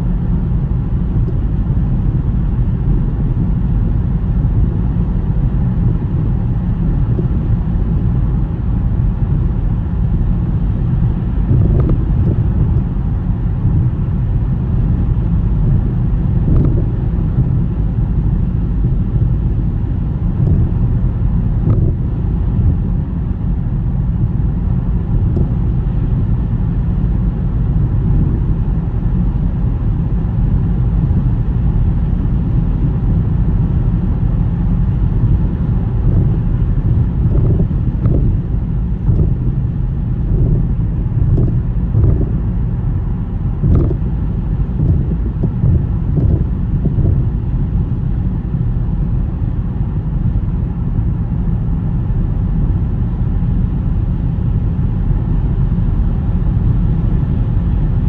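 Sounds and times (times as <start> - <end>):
car driving rumble: 0.0 - 58.0
wind noise: 0.0 - 58.0.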